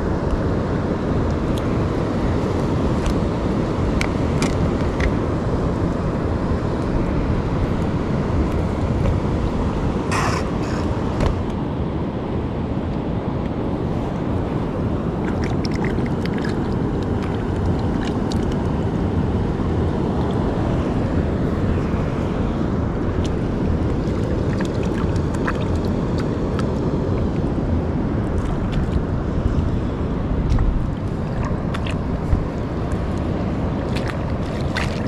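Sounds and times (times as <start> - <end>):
waves washing over reef: 0.0 - 35.0
wind rumbling on microphone: 0.0 - 35.0.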